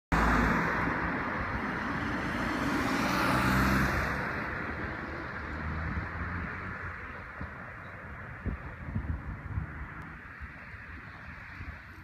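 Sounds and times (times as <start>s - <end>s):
vehicle passing on road: 0.1s - 12.0s.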